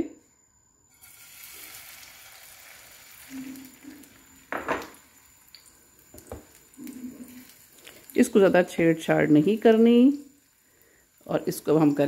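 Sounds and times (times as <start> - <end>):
omelette sizzling in hot oil: 0.9 - 12.0.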